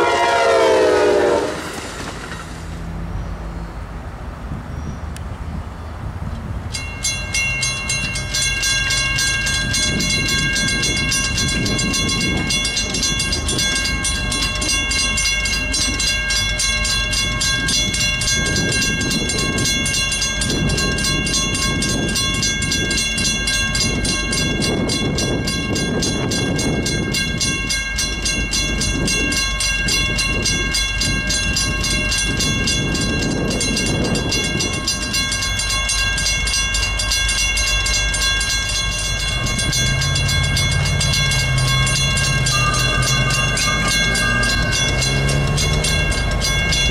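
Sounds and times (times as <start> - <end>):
railroad crossing bell ringing: 0.0 - 2.6, 6.7 - 46.9.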